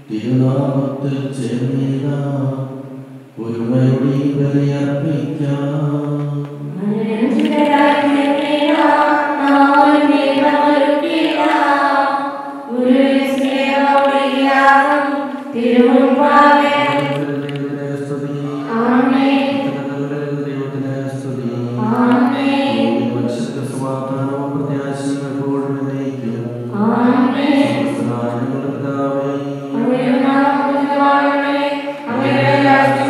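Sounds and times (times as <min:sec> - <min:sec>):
voices singing chant: 0:03.4 - 0:33.0.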